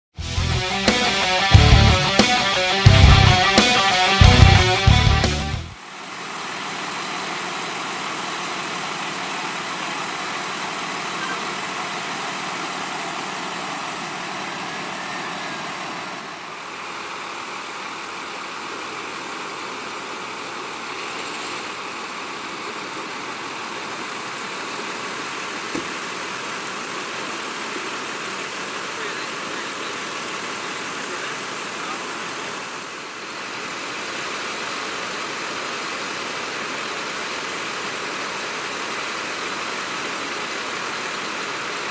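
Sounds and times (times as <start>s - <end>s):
rain hissing on wet pavement: 2.3s - 41.9s.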